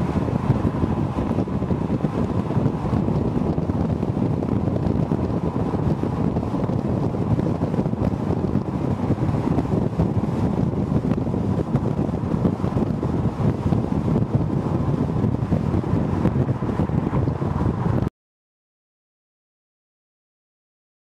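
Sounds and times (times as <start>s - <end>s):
car driving noise: 0.0s - 18.1s
wind buffeting microphone: 0.0s - 18.1s.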